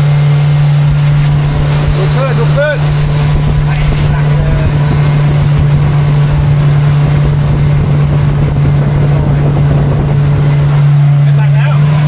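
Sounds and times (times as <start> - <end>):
outboard motor droning: 0.0 - 12.0
water noise: 0.0 - 12.0
wind noise: 0.0 - 12.0.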